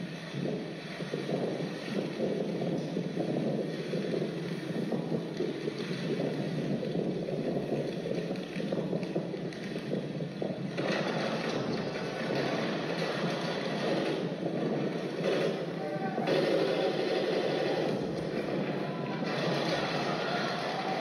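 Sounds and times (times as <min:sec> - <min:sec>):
dense rushing noise: 0:00.0 - 0:21.0.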